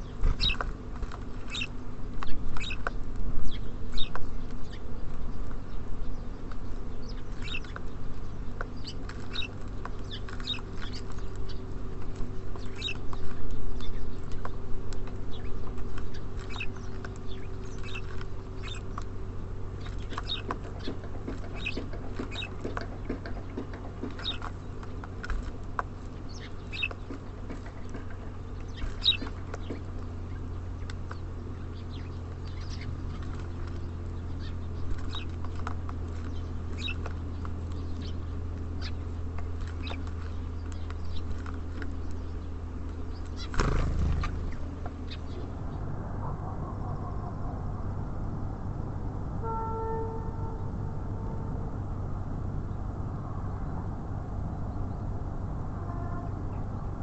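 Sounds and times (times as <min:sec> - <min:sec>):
small songbirds chirping: 0:00.0 - 0:48.8
steady low hum: 0:00.0 - 0:57.0.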